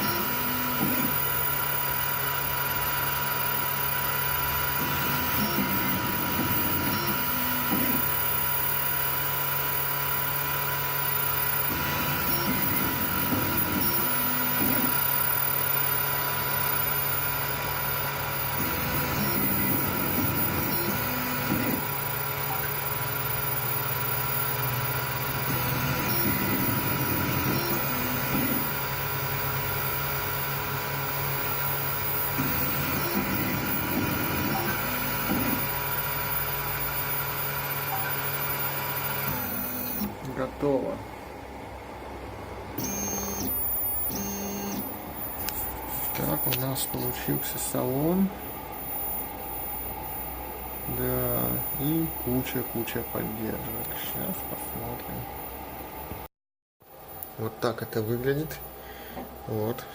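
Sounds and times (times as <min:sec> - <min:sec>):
stepper motors whirring: 0:00.0 - 0:40.9, 0:42.7 - 0:55.4
fan hum: 0:00.0 - 0:56.2, 0:56.9 - 0:59.9.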